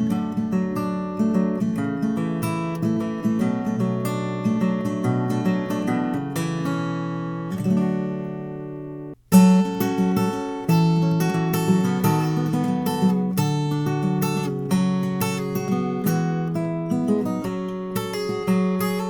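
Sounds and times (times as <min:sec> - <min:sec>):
acoustic guitar picked notes and chords: 0:00.0 - 0:19.0.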